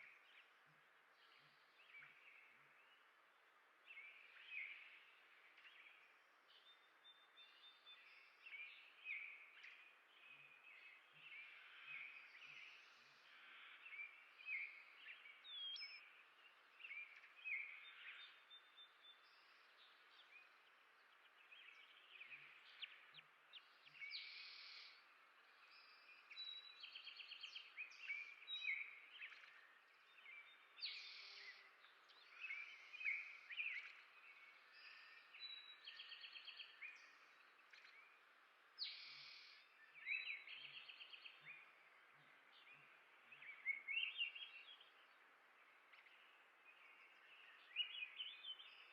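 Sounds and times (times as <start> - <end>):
faint songbirds chirping: 0.0 - 48.9.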